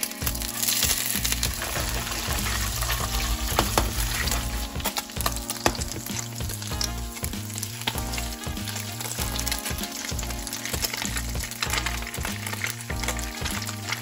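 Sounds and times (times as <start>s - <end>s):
background music with bass: 0.0s - 14.0s
food sizzling in oil: 0.0s - 14.0s.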